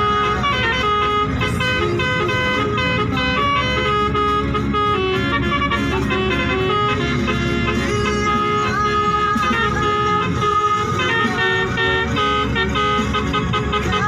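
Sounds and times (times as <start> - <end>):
bus musical horn playing a tune: 0.0 - 14.0.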